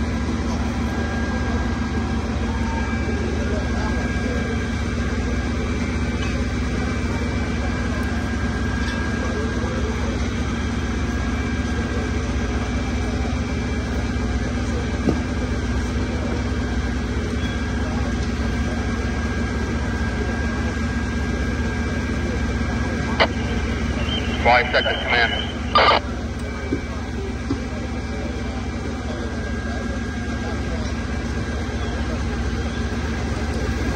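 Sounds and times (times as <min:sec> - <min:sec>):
fire truck engines running: 0:00.0 - 0:33.9.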